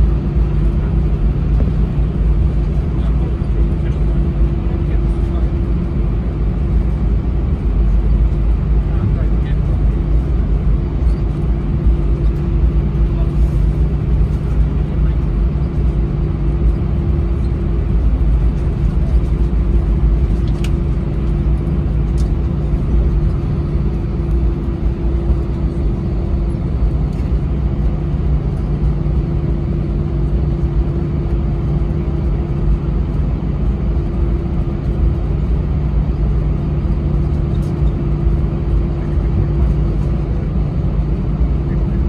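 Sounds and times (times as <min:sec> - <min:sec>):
jet engines at low power: 0:00.0 - 0:42.0
wheels rumbling on taxiway: 0:00.0 - 0:42.0.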